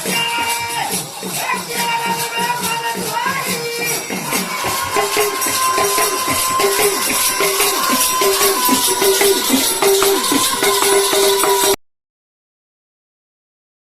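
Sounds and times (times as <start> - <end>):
jingling percussion: 0.0 - 11.8.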